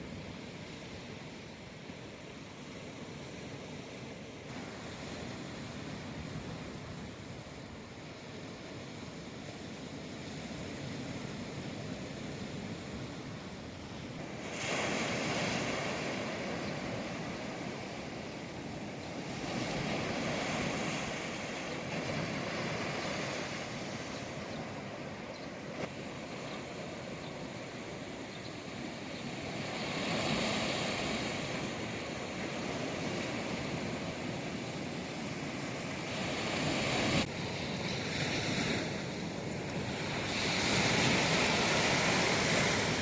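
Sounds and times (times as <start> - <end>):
sea waves breaking on shore: 0.0 - 43.0.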